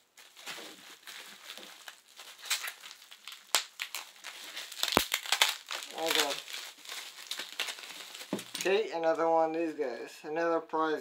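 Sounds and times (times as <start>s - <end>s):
bubble wrap crinkling: 0.0s - 9.2s.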